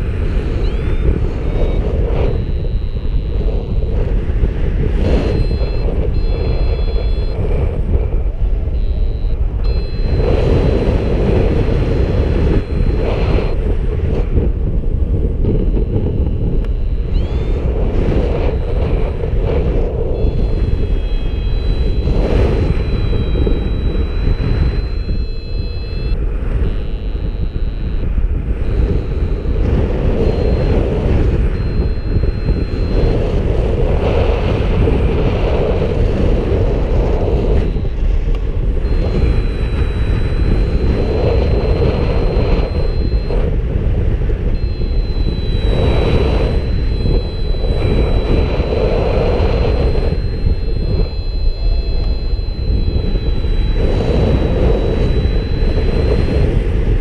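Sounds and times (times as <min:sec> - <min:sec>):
wind rushing over microphone: 0:00.0 - 0:57.0
thin high tone: 0:00.6 - 0:04.0, 0:05.0 - 0:13.6, 0:15.6 - 0:19.2, 0:20.1 - 0:34.5, 0:38.8 - 0:43.6, 0:44.5 - 0:56.6.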